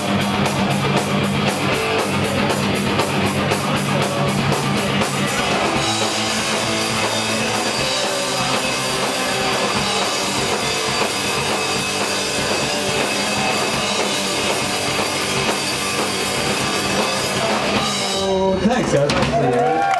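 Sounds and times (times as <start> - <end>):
bass guitar: 0.0 - 19.9
drum kit: 0.0 - 19.9
electric guitars: 0.0 - 19.9.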